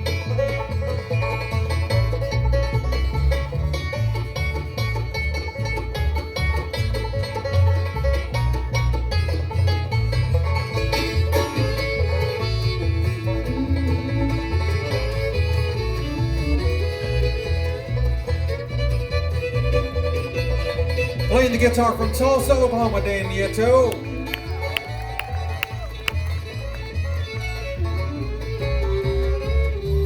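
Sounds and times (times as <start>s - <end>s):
banjo: 0.0s - 30.0s
bluegrass band playing: 0.0s - 30.0s.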